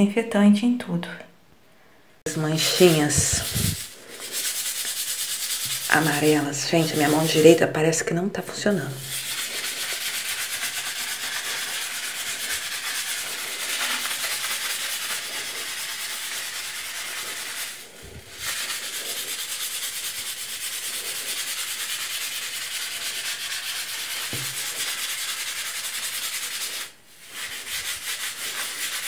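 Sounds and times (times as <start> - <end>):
scrubbing wet floor tiles: 2.3 - 7.6, 9.0 - 29.0.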